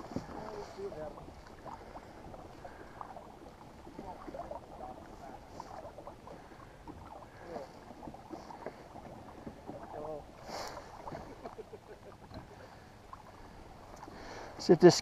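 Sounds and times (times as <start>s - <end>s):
water gurgling against kayak hull: 0.0s - 15.0s.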